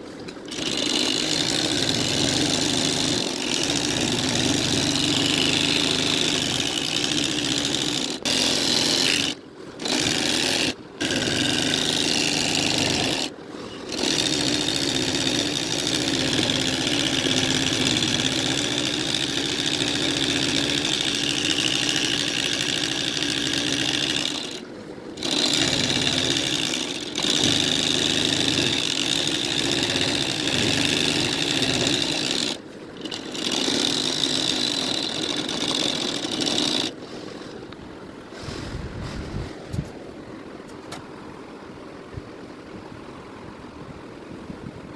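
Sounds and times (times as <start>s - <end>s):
embroidery machine stitching: 0.4s - 37.5s.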